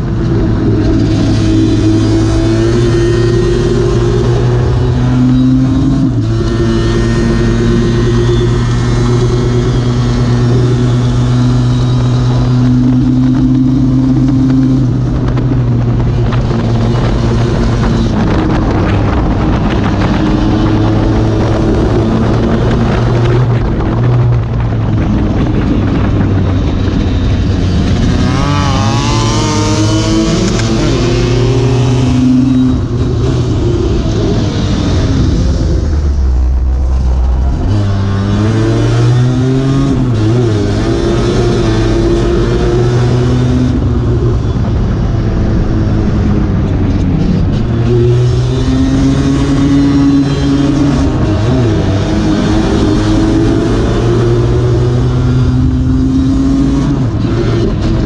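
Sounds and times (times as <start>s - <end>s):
scooter engine at high revs: 0.0s - 36.2s, 37.0s - 58.0s.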